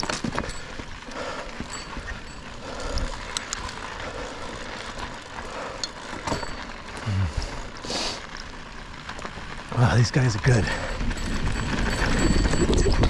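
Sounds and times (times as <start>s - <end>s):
bike clicking and rattling: 0.0s - 13.0s
bike tyres on dirt: 0.0s - 13.0s.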